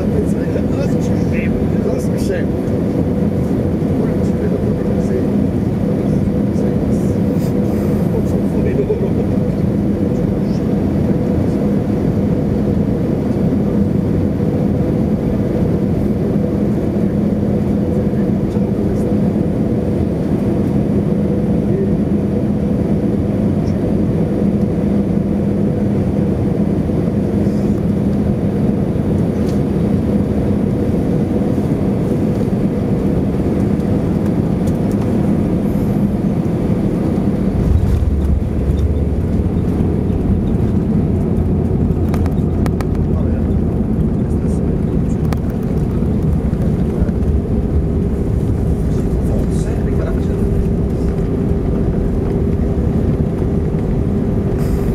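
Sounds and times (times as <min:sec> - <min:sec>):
constant low hum: 0:00.0 - 0:54.9
jet engine and airflow drone: 0:00.0 - 0:54.9.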